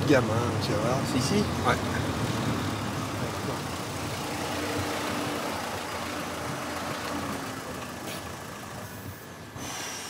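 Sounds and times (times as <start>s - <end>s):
car engine running at low speed: 0.0s - 9.6s.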